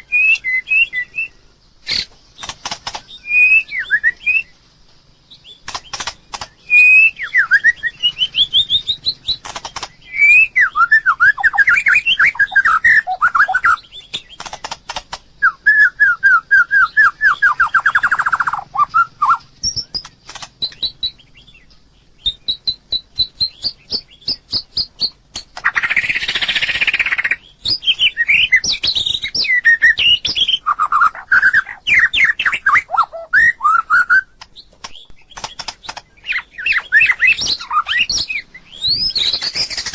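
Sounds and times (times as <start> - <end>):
bird whistling song: 0.0 - 4.6, 5.2 - 39.9.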